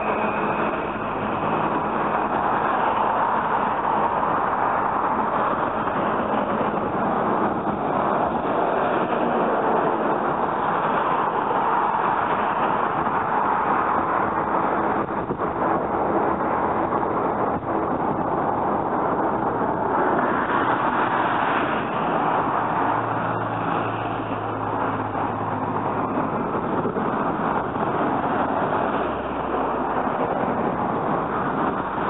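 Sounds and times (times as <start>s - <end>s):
large truck passing: 0.0s - 32.0s
road traffic passing: 0.0s - 32.0s.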